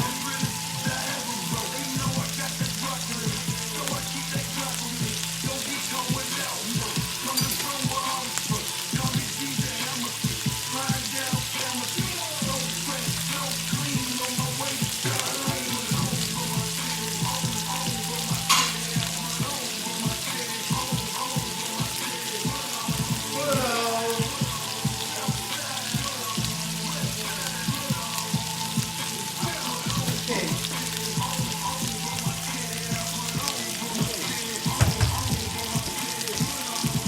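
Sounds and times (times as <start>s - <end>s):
chicken sizzling in a pan: 0.0s - 37.0s.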